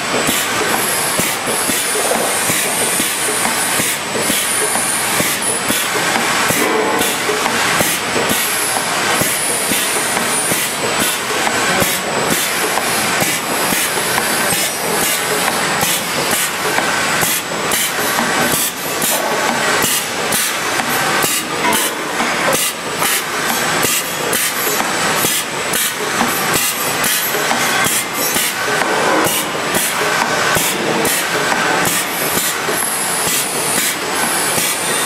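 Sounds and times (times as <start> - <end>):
machine clattering with sharp clicks: 0.0 - 35.0.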